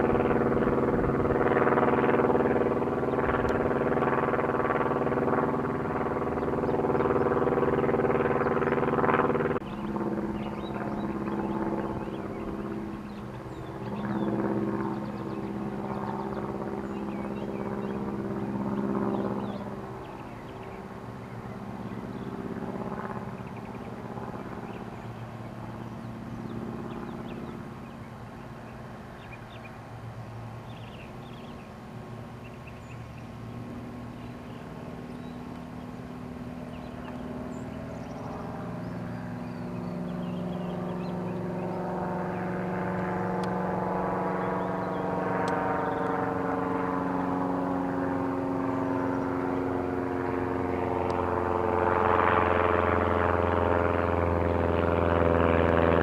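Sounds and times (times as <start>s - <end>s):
propeller plane droning: 0.0s - 56.0s.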